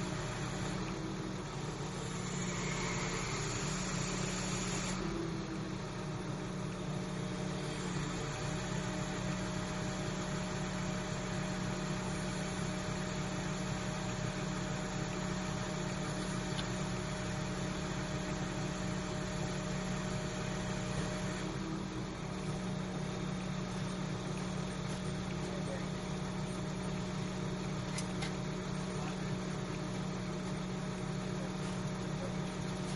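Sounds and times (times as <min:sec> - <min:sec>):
engine humming steadily: 0:00.0 - 0:32.9.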